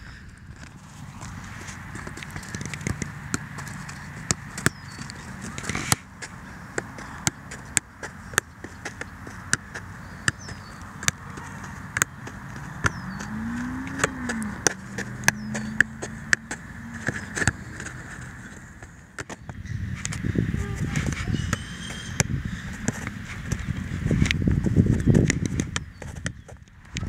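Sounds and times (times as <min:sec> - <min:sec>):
soccer ball touches: 0:00.6 - 0:26.6.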